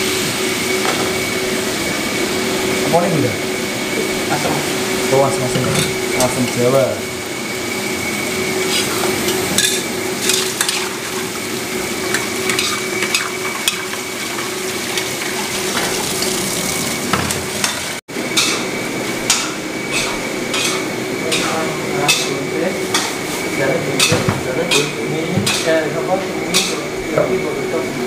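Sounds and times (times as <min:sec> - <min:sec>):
food sizzling in a wok: 0:00.0 - 0:27.0.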